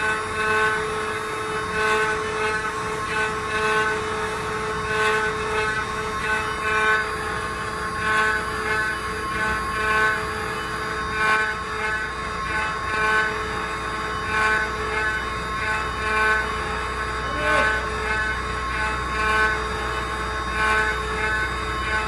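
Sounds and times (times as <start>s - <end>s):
router cutting wood: 0.0s - 22.0s
spindles whining: 0.0s - 22.0s.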